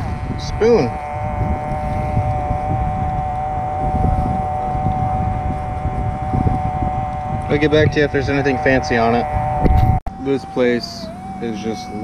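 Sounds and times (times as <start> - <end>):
two-tone hum: 0.0 - 12.0
wind rumble on microphone: 0.0 - 12.0.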